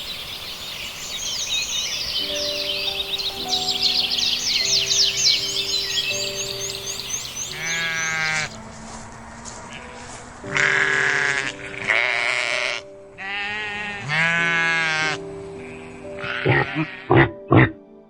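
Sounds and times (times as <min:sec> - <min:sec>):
animal calling: 0:01.9 - 0:08.6, 0:09.3 - 0:17.8.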